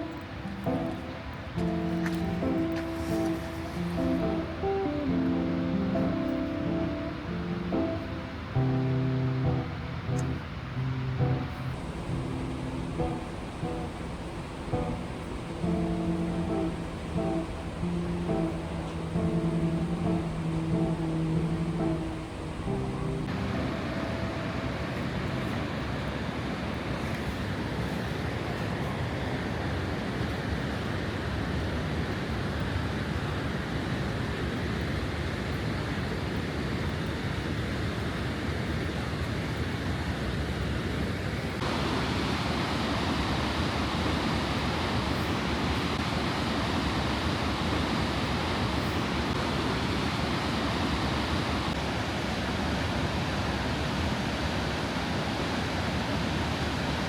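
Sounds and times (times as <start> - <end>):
creek water rushing: 0.0 - 34.3, 41.5 - 57.0.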